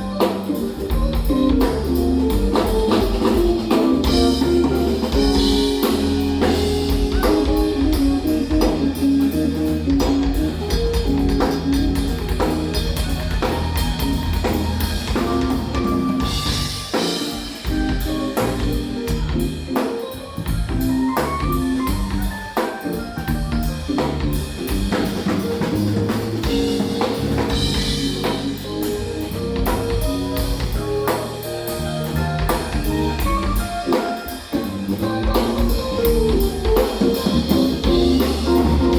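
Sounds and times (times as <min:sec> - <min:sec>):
jazz fusion band playing: 0:00.0 - 0:38.9.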